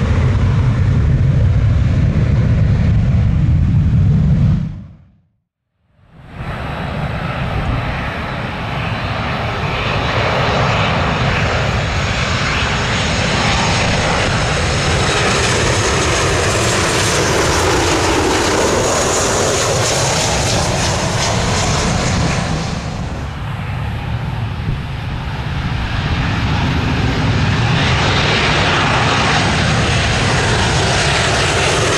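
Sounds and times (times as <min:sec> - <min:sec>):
jet engines flying overhead: 0:00.0 - 0:05.2, 0:05.9 - 0:31.9.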